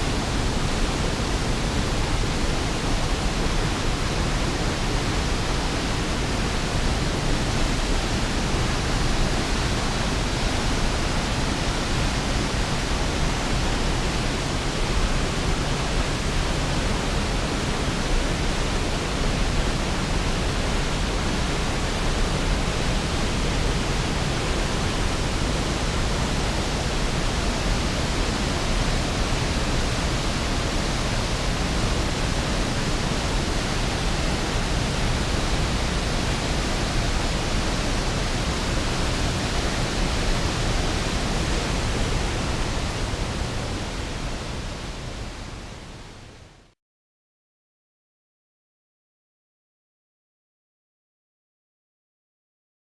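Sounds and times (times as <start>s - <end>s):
waterfall rushing: 0.0s - 45.8s.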